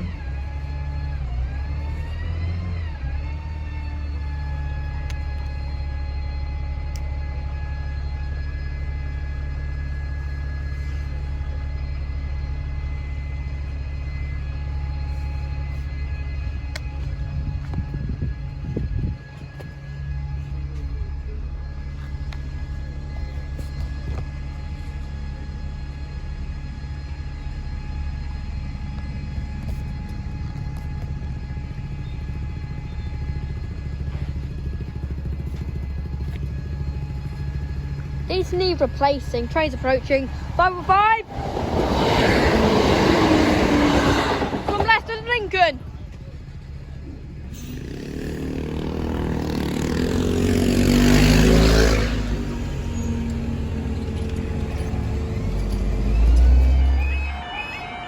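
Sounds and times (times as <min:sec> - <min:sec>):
diesel train passing: 0:00.0 - 0:58.0
low vehicle engine rumble: 0:00.0 - 0:58.0.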